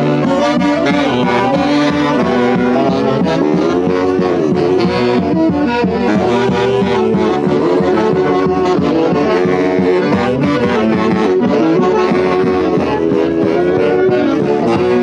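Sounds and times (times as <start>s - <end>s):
band playing with saxophones and brass: 0.0s - 15.0s.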